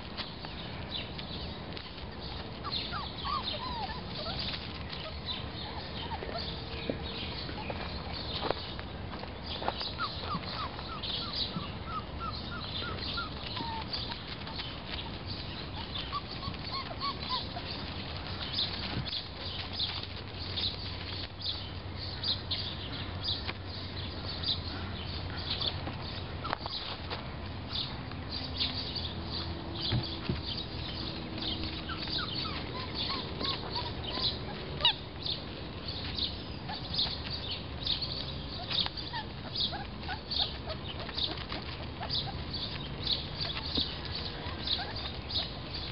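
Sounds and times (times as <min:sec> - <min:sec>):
ducks and birds calling: 0:00.0 - 0:45.9
small animals scratching and rustling: 0:00.0 - 0:45.9.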